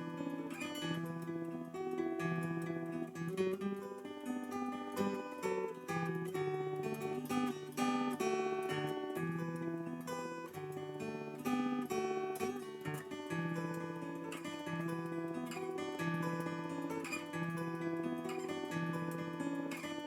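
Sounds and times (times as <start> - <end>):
fingerpicked acoustic guitar: 0.0 - 20.0.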